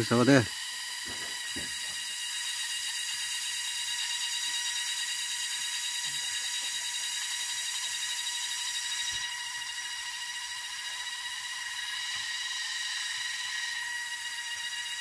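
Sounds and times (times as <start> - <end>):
high buzzing drone: 0.0 - 15.0.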